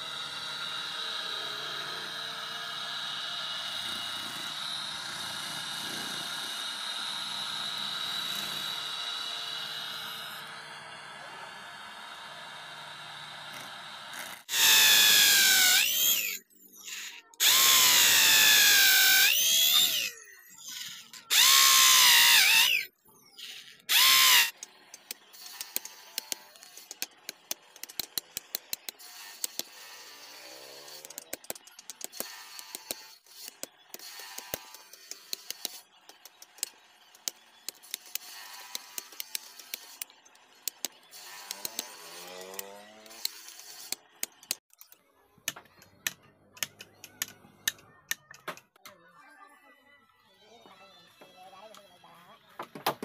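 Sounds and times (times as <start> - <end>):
electric drill boring into wood: 0.0 - 44.6.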